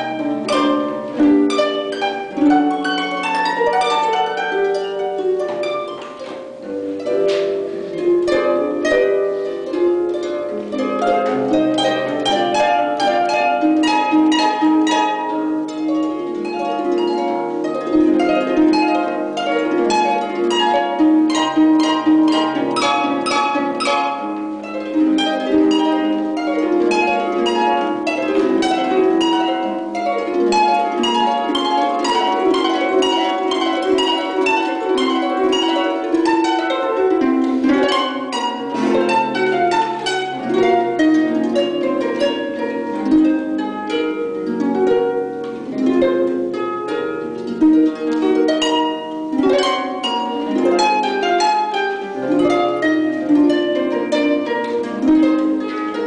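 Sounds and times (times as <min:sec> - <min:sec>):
harp playing classical music: 0:00.0 - 0:56.0.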